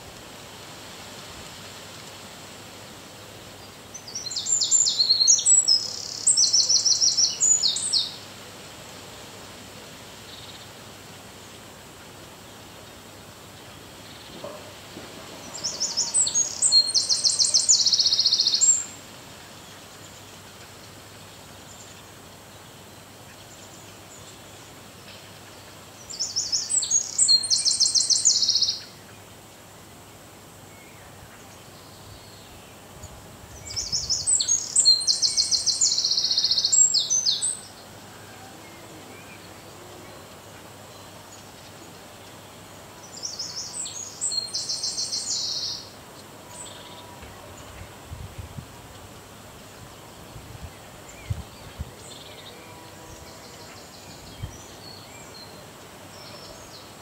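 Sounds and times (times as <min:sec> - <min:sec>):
faint background hiss: 0:00.0 - 0:57.0.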